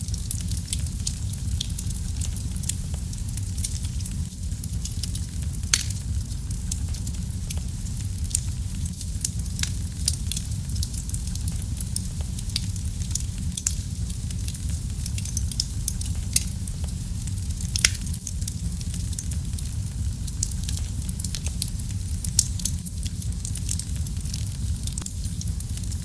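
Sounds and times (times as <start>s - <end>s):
low rumble of fire flames: 0.0s - 26.0s
wood fire crackling and popping: 0.0s - 26.0s.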